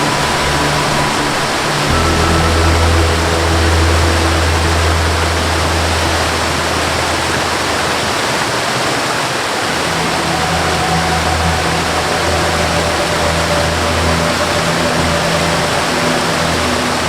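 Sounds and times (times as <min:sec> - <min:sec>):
low sustained musical note: 0:00.0 - 0:09.0, 0:09.6 - 0:17.0
waterfall rushing: 0:00.0 - 0:17.0.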